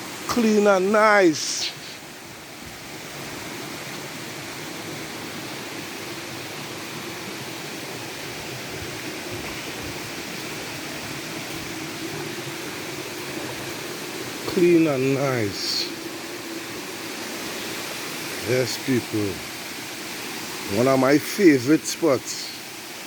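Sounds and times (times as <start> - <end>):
waterfall pouring into pool: 0.0 - 23.0.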